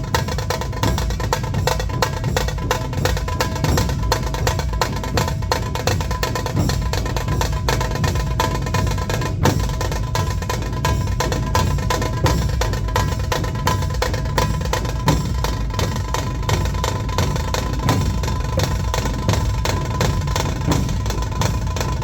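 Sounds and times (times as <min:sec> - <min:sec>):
ensemble drumming: 0:00.0 - 0:22.0.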